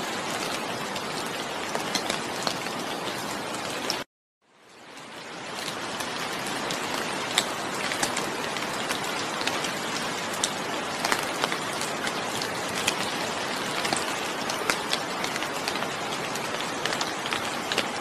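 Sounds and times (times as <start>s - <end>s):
raindrops ticking on a surface: 0.0s - 18.0s
steady rain falling: 0.0s - 18.0s.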